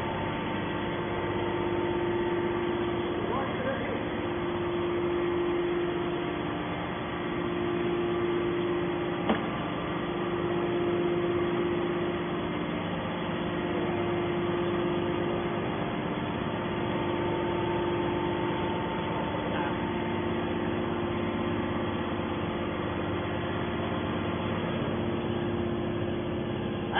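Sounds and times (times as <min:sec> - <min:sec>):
electric motor and pump hum: 0:00.0 - 0:26.9.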